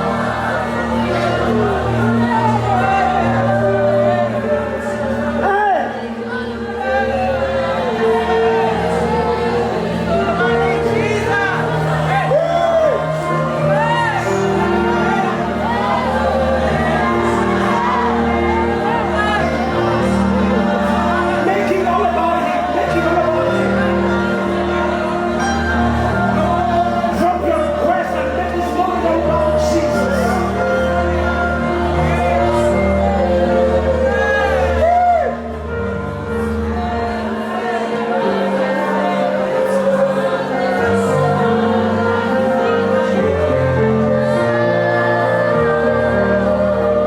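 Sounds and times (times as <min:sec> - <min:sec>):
person singing: 0:00.0 - 0:47.0
worship music chords and bass: 0:00.0 - 0:47.0.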